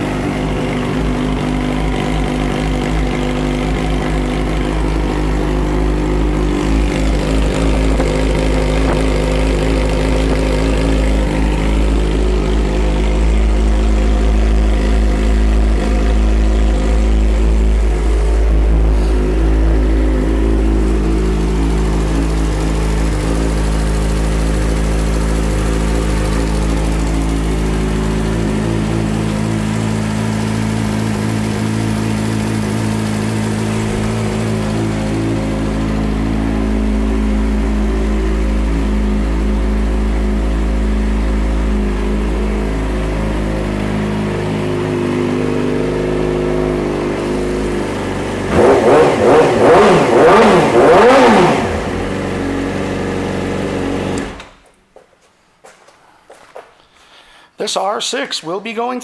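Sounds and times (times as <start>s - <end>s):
motorcycle engine idling and revving: 0.0s - 54.8s.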